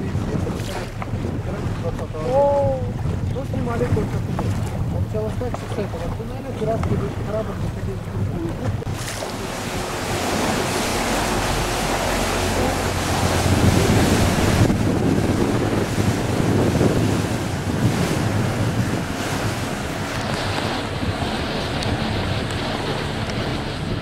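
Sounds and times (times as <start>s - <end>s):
boat engine droning: 0.0s - 24.0s
sea water washing: 0.0s - 24.0s
wind buffeting microphone: 0.0s - 24.0s.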